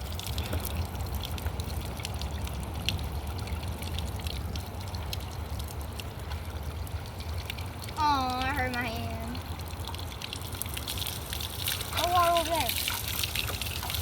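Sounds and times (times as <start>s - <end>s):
water drips: 0.0s - 14.0s
water pouring and splashing: 0.0s - 14.0s.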